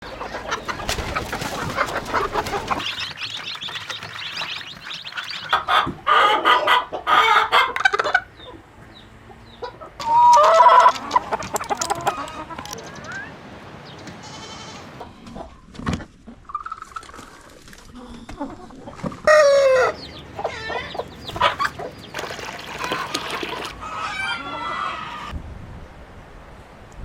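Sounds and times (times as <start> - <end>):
chickens clucking and squawking: 0.0 - 25.4.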